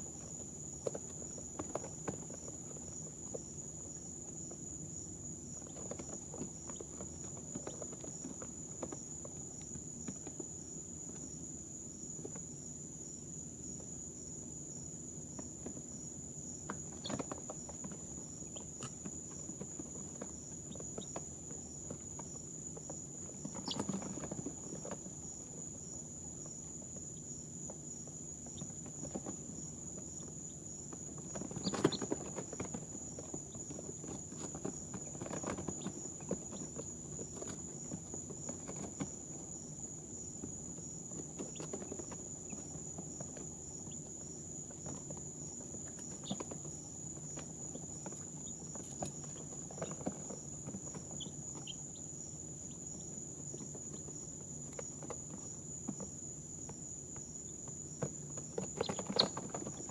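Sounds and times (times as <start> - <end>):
chicks scratching and rustling: 0.0 - 59.9.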